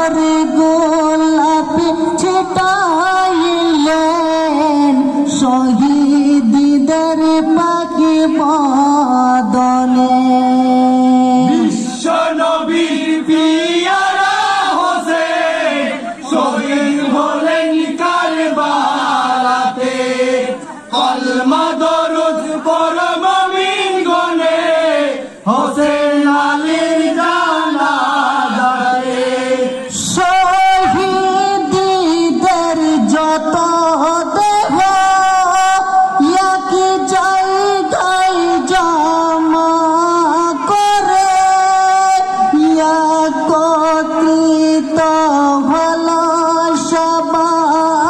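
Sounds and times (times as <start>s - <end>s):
young man chanting through a microphone: 0.0s - 48.0s.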